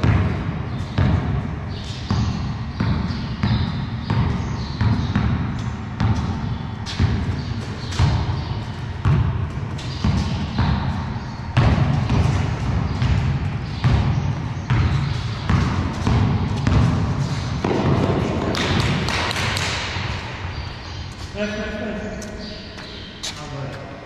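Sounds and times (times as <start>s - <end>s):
basketball bouncing on concrete: 0.0s - 20.2s.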